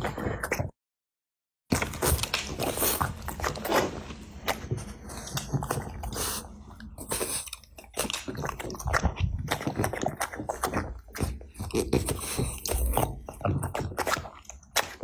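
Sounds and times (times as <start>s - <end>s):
dog chewing food: 1.7s - 15.0s.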